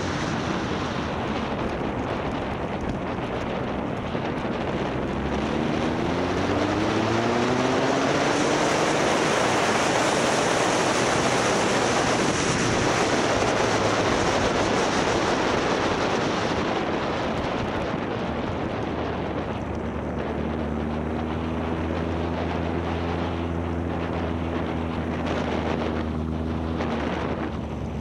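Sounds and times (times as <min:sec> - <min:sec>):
motorcycle engine accelerating: 0:00.0 - 0:28.0
wind rush on microphone: 0:00.0 - 0:28.0.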